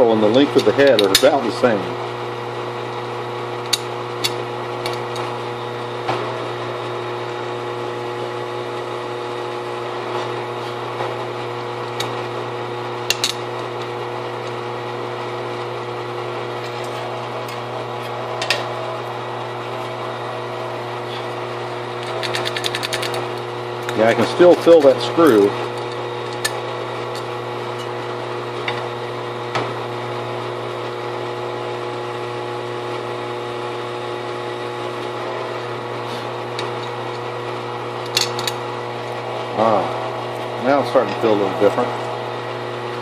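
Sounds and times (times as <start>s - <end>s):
drill press humming: 0.0s - 43.0s.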